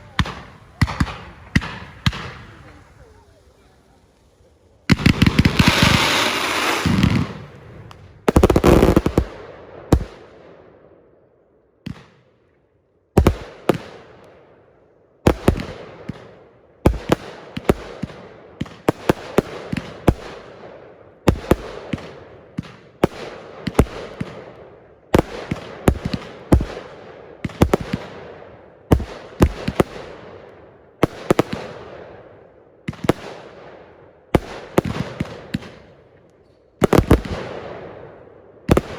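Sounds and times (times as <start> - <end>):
fireworks bangs and crackle: 0.0 - 10.6, 13.2 - 14.5, 15.3 - 38.9.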